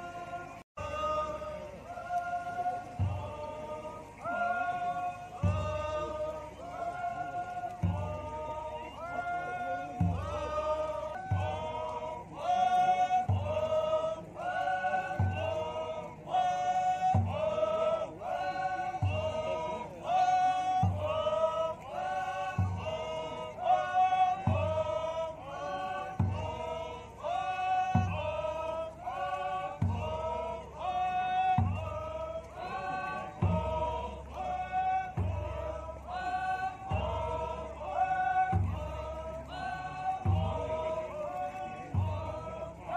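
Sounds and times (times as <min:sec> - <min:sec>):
group chanting in unison: 0:00.0 - 0:42.9
deep drum beats: 0:00.1 - 0:42.9.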